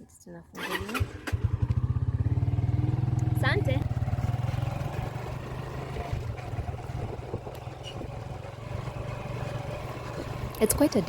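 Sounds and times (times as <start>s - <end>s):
small motorcycle engine running: 0.6s - 11.0s.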